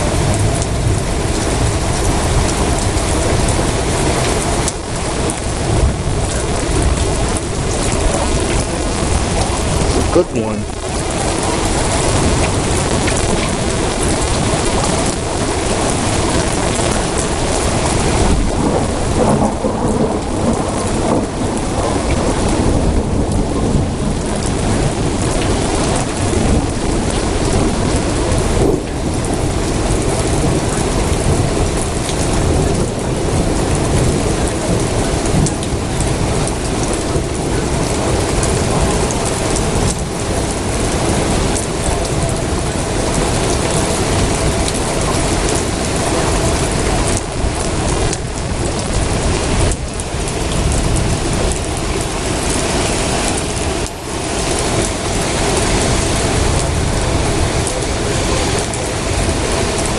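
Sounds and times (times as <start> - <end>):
heavy rain falling: 0.0 - 59.9
thunder rumbling: 0.0 - 59.9.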